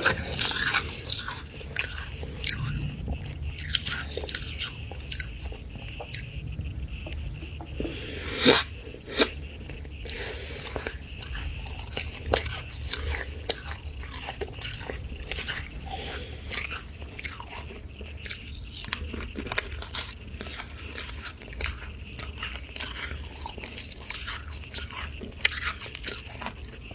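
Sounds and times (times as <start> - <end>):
frost being bitten and chewed: 0.0 - 26.9
steady low hum: 0.0 - 26.9.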